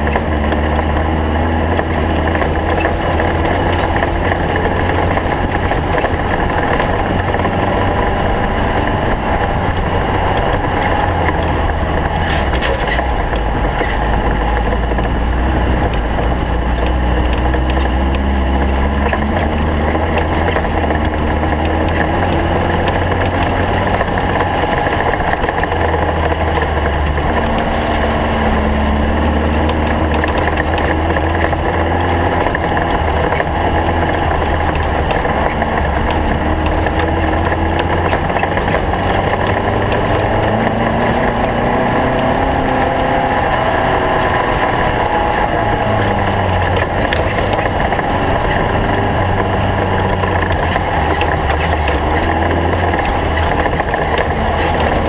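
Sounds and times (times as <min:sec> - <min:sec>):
car moving noise: 0:00.0 - 0:55.0
race car engine running loudly: 0:00.0 - 0:55.0.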